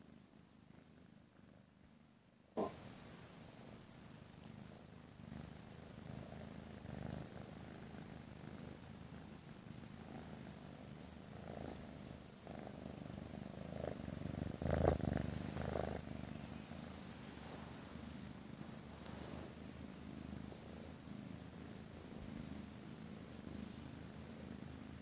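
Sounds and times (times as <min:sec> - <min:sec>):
kitten purring: 0:00.0 - 0:25.0.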